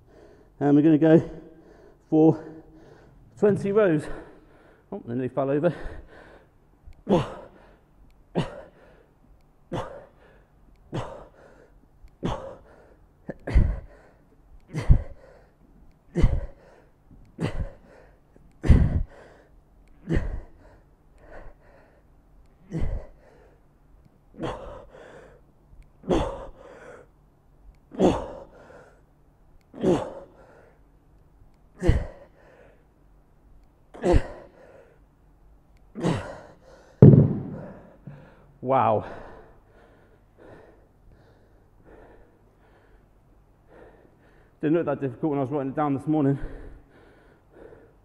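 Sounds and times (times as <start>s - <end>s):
man breathing hard: 0.0s - 0.6s, 1.2s - 4.9s, 5.6s - 27.2s, 27.9s - 29.1s, 29.7s - 30.9s, 31.7s - 33.0s, 33.9s - 35.1s, 36.0s - 44.6s, 46.2s - 48.0s.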